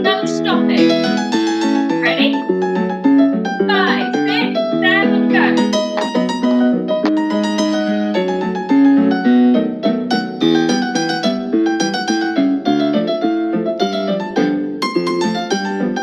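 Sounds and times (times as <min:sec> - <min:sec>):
bouncy piano tune: 0:00.0 - 0:16.0.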